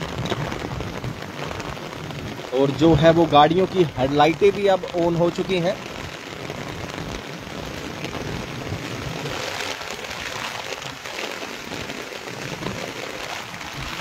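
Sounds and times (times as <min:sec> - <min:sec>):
heavy rain pouring: 0:00.0 - 0:14.0
wind: 0:00.0 - 0:14.0.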